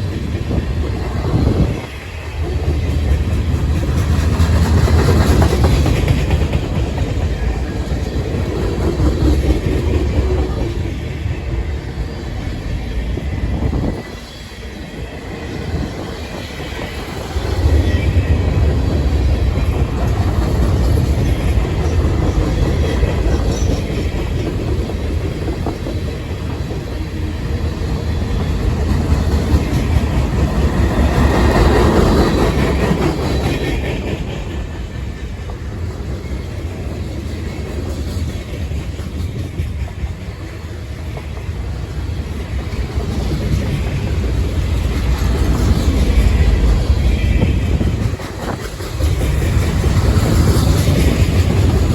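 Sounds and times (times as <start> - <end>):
train wheels rumbling and clacking: 0.0 - 51.9.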